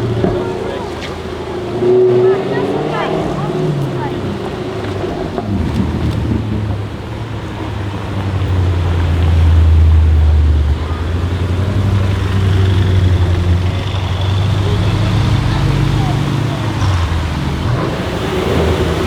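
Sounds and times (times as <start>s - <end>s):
car engine deep rumble: 0.0s - 19.0s.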